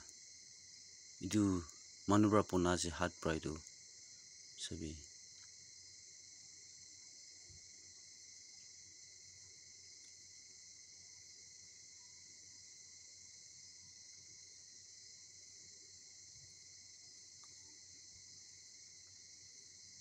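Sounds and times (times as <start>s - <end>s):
chorus of insects: 0.0s - 20.0s.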